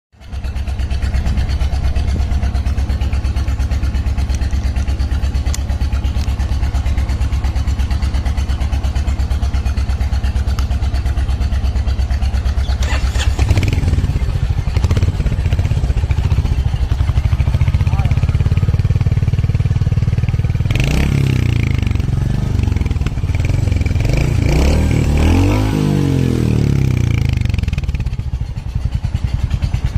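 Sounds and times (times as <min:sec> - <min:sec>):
motorcycle engine idling and revving: 0:00.1 - 0:29.9.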